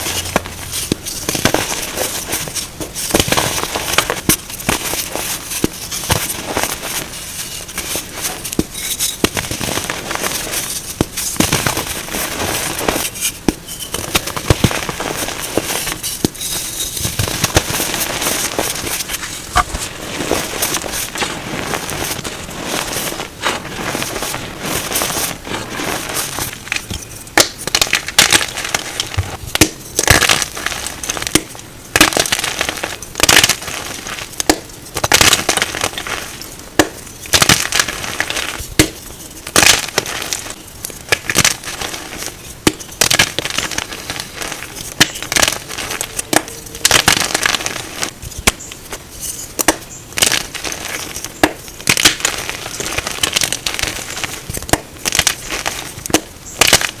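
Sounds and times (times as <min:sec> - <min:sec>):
chalk blocks being crushed: 0:00.0 - 0:57.0.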